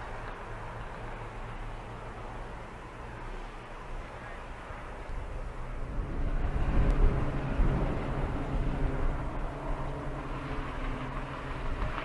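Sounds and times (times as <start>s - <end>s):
turboprop aircraft passing low: 0.0s - 12.0s.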